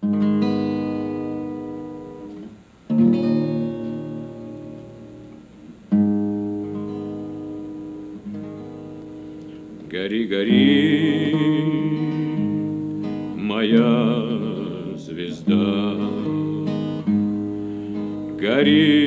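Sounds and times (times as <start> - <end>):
guitar chords ringing: 0.0 - 19.0.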